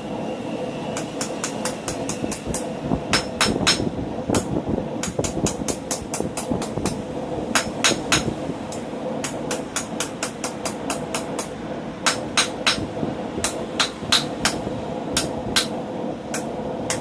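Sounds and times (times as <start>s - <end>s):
steady background roar: 0.0s - 17.0s
hammer striking steel on anvil: 1.0s - 14.6s, 15.2s - 17.0s.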